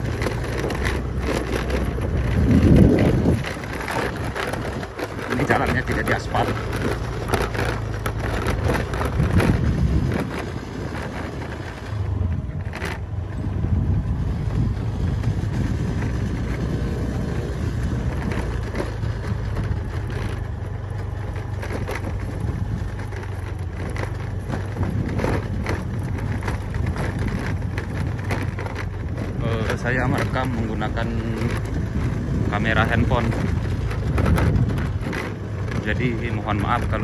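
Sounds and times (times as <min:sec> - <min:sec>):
motorcycle engine running: 0:00.0 - 0:37.0
rough road noise: 0:00.0 - 0:37.0
wind noise: 0:00.0 - 0:37.0.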